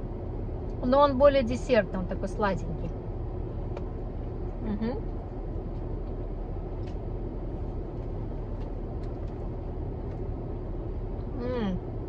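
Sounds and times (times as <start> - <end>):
car cabin rumble and hum: 0.0 - 12.0.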